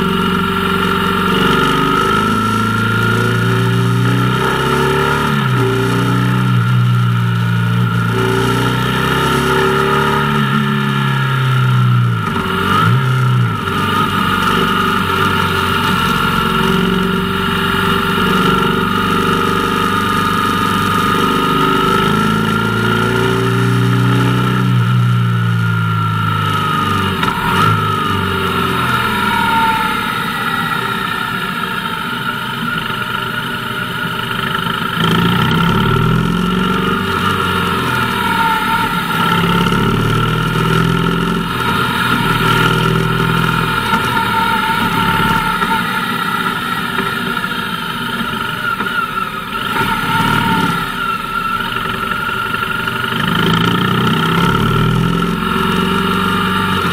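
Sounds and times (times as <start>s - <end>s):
motorcycle engine accelerating: 0.0s - 56.9s.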